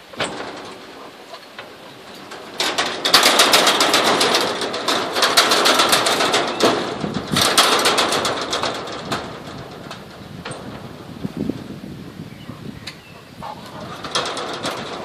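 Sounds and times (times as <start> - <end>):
wire mesh cage rattling: 0.0 - 15.0.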